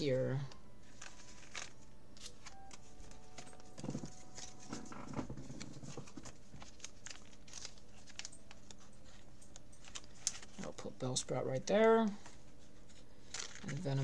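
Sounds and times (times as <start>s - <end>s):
cards clicking and plastic rustling: 0.4s - 14.0s.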